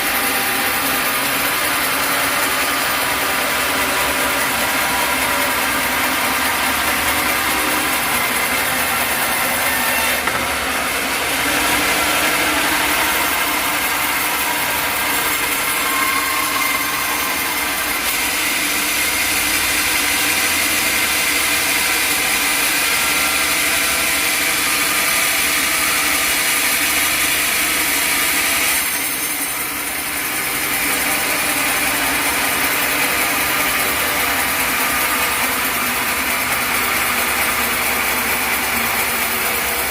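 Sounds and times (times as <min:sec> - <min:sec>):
saw blade cutting log: 0:00.0 - 0:39.9
sawmill engine running: 0:00.0 - 0:39.9.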